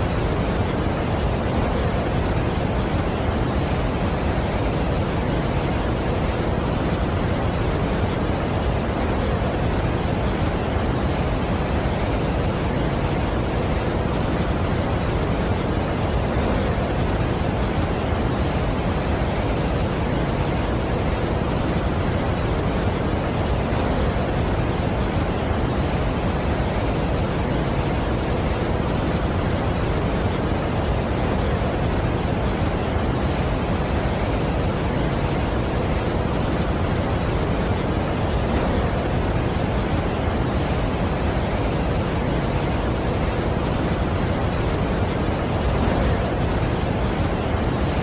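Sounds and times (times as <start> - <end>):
waterfall roaring: 0.0 - 48.0.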